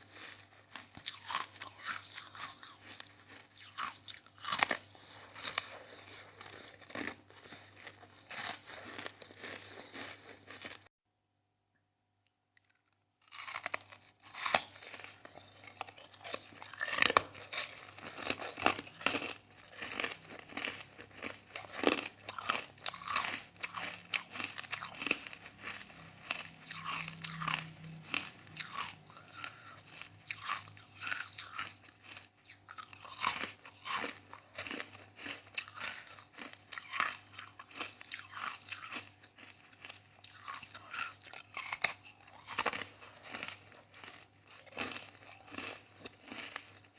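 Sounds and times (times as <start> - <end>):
crushed ice being chewed: 0.0 - 10.9, 12.6 - 46.9.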